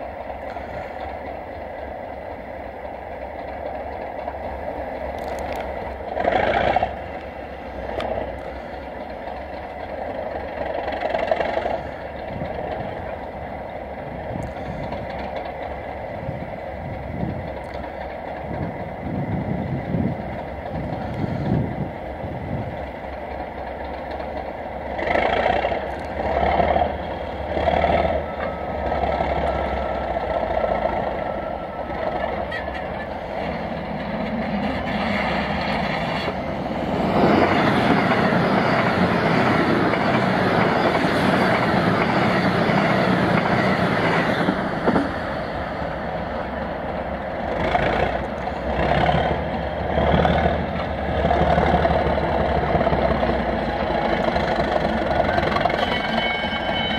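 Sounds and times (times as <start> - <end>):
diesel locomotives idling: 0.0 - 56.9.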